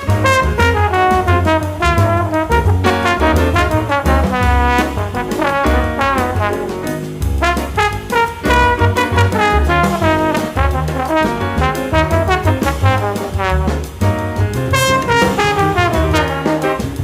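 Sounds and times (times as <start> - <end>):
brass background music: 0.0 - 17.0
steady bass line: 0.0 - 17.0.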